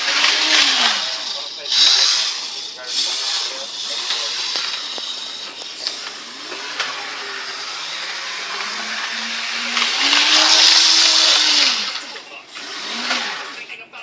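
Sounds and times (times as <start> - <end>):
toy train motor whirring: 0.0 - 13.8.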